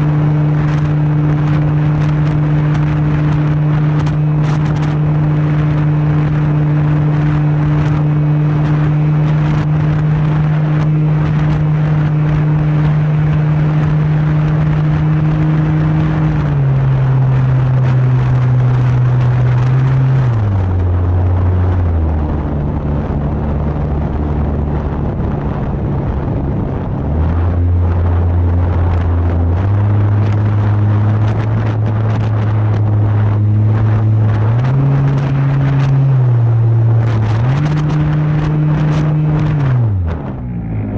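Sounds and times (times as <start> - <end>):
rushing air: 0.0 - 40.9.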